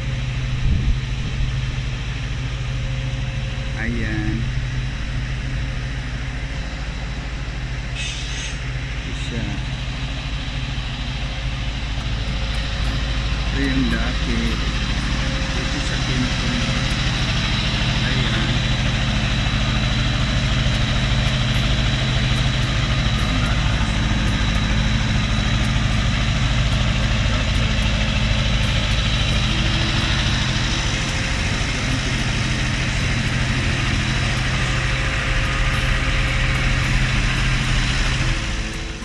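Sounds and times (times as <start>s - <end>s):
truck diesel engine running: 0.0s - 39.0s.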